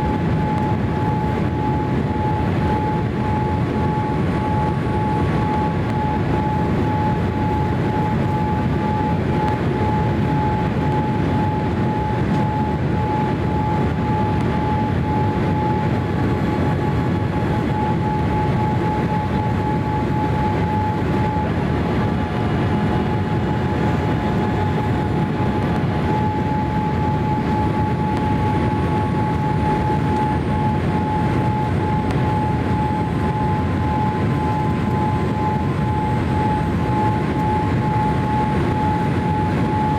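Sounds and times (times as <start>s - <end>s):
aircraft engines and airflow rush: 0.0s - 39.9s
thin steady whine: 0.0s - 39.9s.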